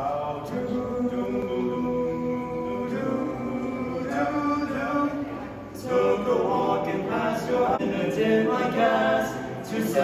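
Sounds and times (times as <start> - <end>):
male vocal quartet singing: 0.0 - 10.0.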